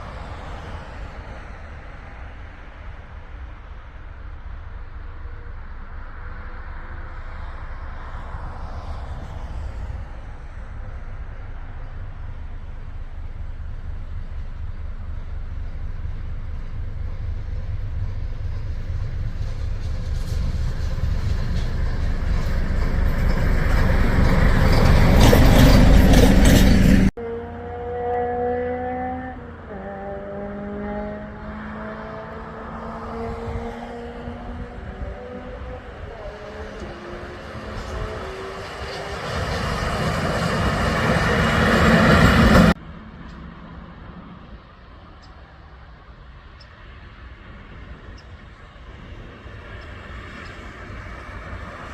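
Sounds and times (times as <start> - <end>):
train rumble: 0.0 - 27.2, 33.0 - 51.9
wheel clatter and rail noise: 0.0 - 27.2, 33.0 - 51.9.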